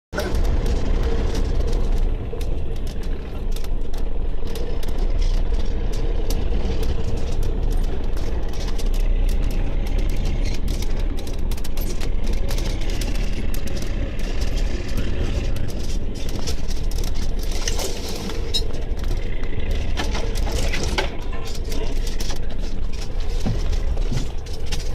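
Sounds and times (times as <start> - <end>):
heavy vehicle engine rumbling: 0.1 - 24.9
sharp cracks and clanks: 0.2 - 24.9.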